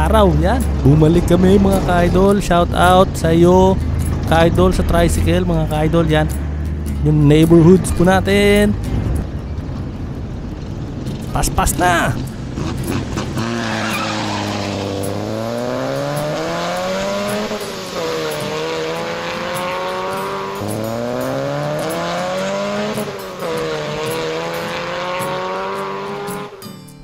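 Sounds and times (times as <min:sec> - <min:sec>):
truck engine accelerating: 0:00.0 - 0:27.0.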